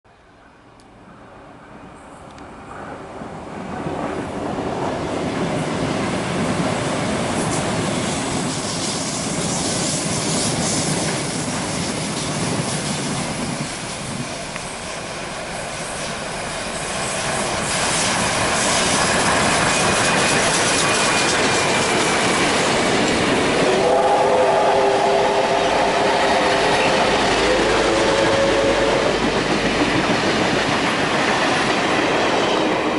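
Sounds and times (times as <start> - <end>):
electric train passing: 0.4 - 32.9
steam train rolling by: 1.3 - 32.9.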